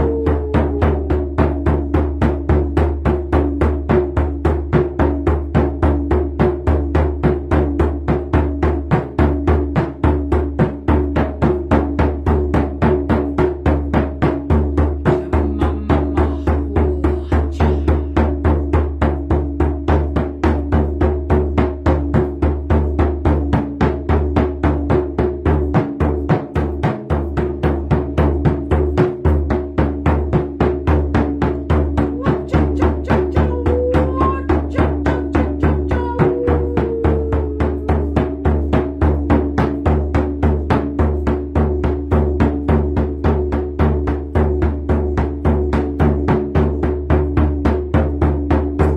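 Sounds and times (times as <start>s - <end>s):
hand drum beating: 0.0s - 48.9s.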